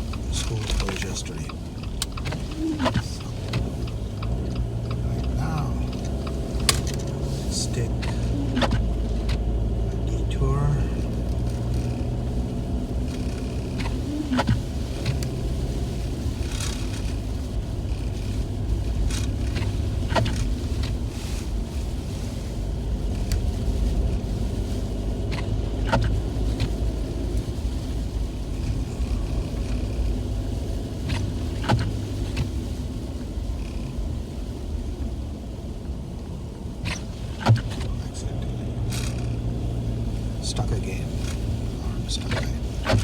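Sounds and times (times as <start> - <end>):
road and engine rumble: 0.0 - 43.0.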